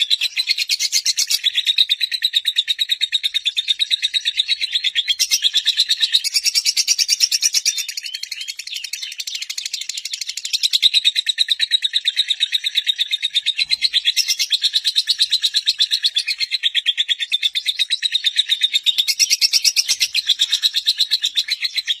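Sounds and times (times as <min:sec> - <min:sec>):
lovebird chirping: 0:00.0 - 0:22.0.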